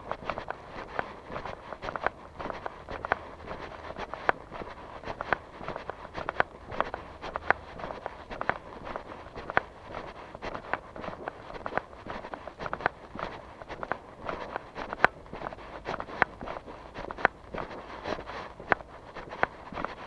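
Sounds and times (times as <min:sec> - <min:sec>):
footsteps walking: 0:00.0 - 0:20.0.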